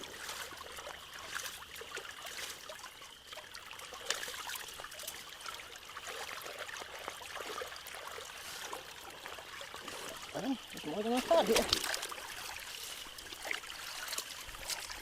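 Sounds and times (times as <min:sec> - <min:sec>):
small water splashes: 0:00.0 - 0:15.0
water trickling and gurgling: 0:00.0 - 0:15.0.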